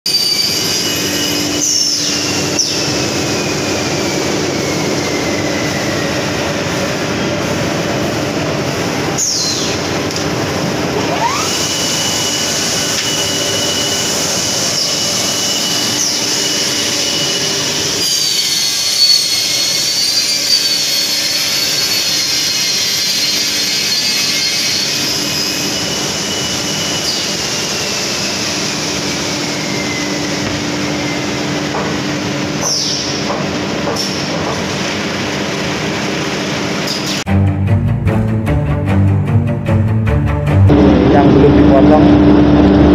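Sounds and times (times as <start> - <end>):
saw whine: 0.1 - 37.2
machine running loudly: 0.5 - 37.3, 40.3 - 42.9.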